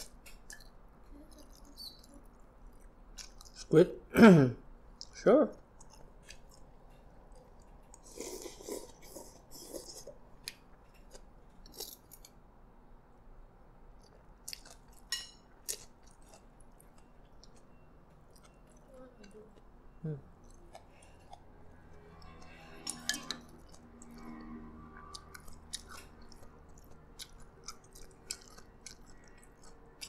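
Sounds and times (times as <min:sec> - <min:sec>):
quiet chewing: 0:00.0 - 0:03.7, 0:04.9 - 0:12.4, 0:13.9 - 0:30.0.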